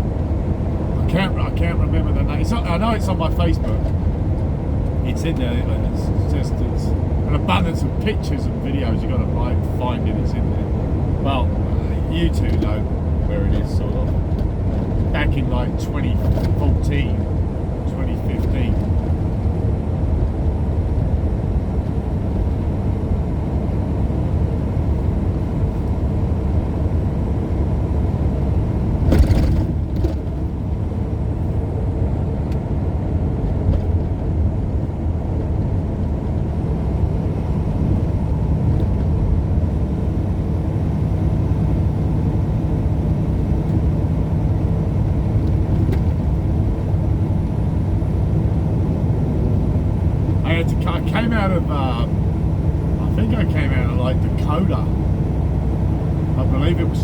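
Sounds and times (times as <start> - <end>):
truck engine and road rumble: 0.0 - 57.0.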